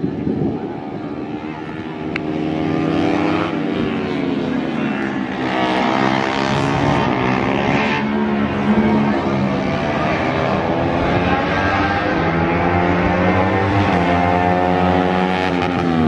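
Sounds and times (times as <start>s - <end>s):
racing motorcycle engine revving: 1.1s - 16.0s.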